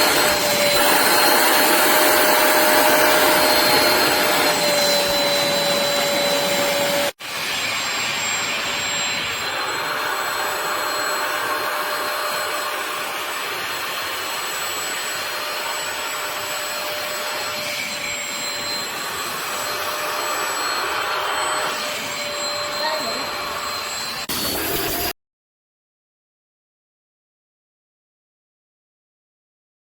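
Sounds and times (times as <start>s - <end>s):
wet vacuum running with whine: 0.0s - 25.1s.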